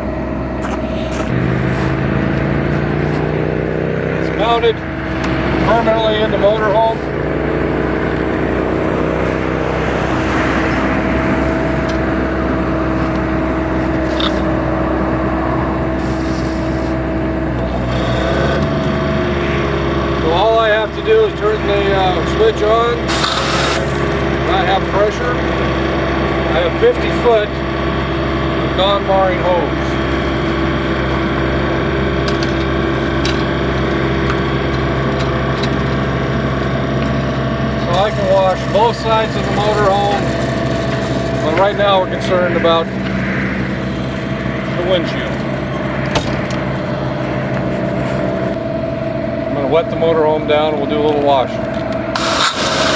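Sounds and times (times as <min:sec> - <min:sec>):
generator humming: 0:00.0 - 0:52.9.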